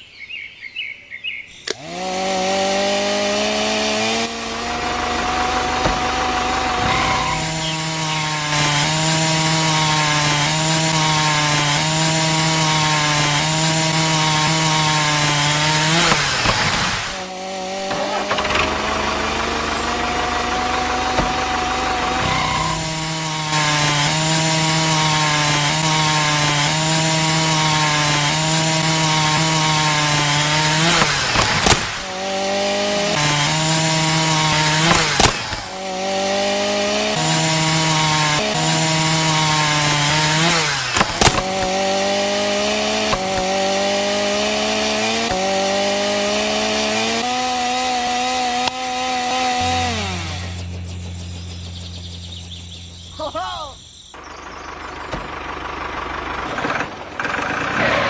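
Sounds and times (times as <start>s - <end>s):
small motor saw cutting wood: 1.7s - 58.0s.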